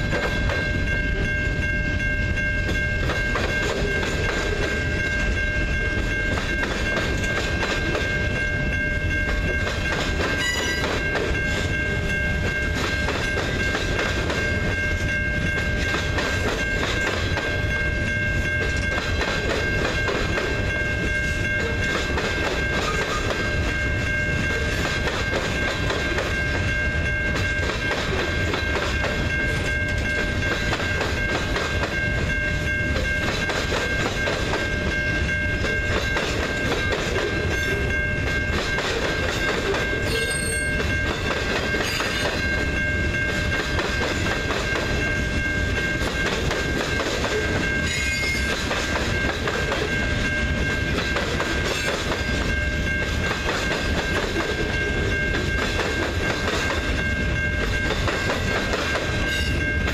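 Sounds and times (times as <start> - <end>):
train wheels clacking over rail joints: 0.0 - 1.3, 2.6 - 8.4, 9.1 - 17.7, 18.5 - 59.9
train rumble: 0.0 - 59.9.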